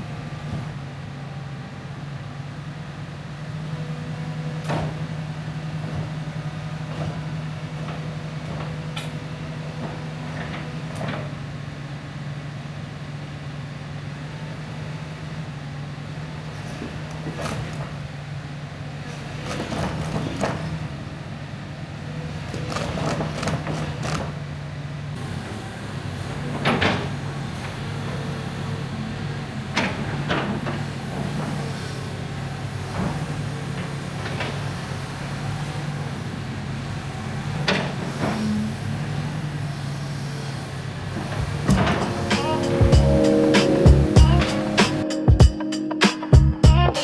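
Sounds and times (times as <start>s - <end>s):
excavator engine running: 0.0s - 45.7s.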